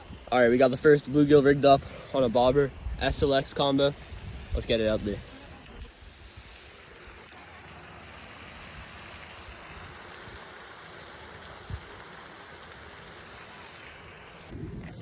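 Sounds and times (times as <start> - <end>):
rushing outdoor hiss: 0.0 - 15.0.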